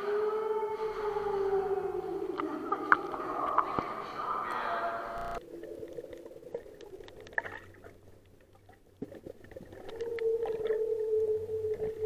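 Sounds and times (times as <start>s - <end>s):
faint underwater clicks and crackles: 2.0s - 12.0s.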